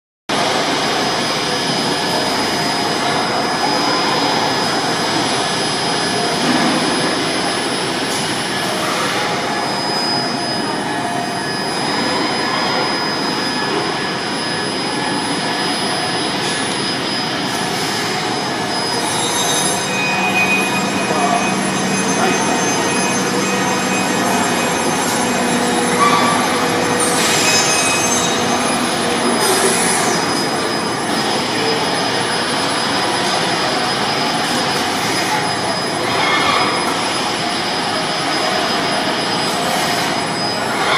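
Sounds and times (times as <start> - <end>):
machine rushing hum: 0.3 - 40.9
faint high whines: 0.4 - 40.9.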